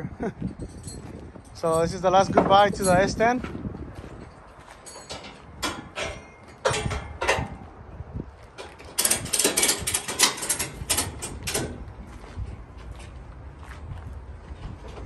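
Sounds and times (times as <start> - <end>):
metal clanking and rattling: 0.4 - 7.7, 8.4 - 13.2.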